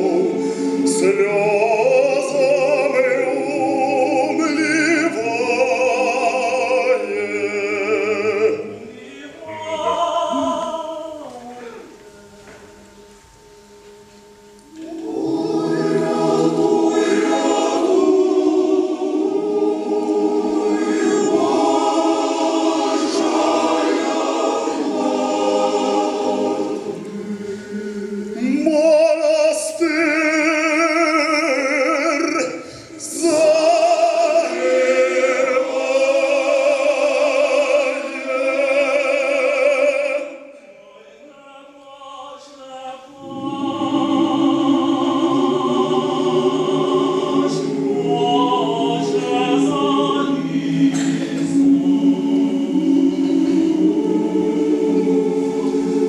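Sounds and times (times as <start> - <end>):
male choir singing unaccompanied: 0.0 - 11.4, 14.7 - 56.0.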